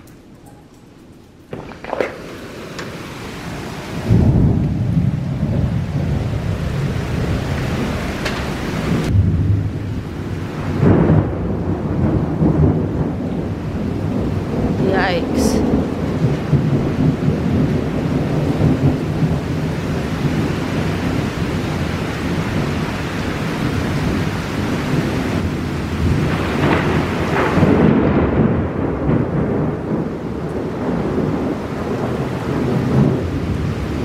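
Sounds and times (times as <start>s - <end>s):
heavy rain pouring: 0.0s - 34.0s
thunder rumbling: 0.0s - 34.0s.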